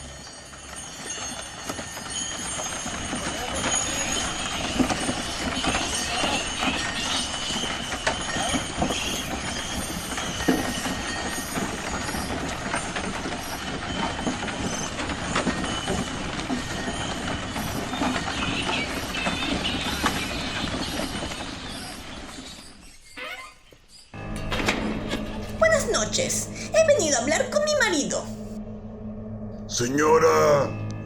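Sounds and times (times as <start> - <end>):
hooves and cart wheels clattering: 0.0 - 28.4.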